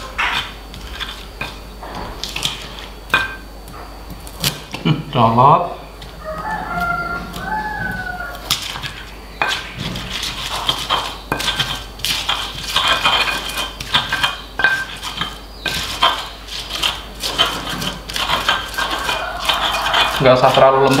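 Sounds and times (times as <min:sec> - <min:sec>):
stone pestle grinding in mortar: 0:00.0 - 0:04.8, 0:05.9 - 0:21.0.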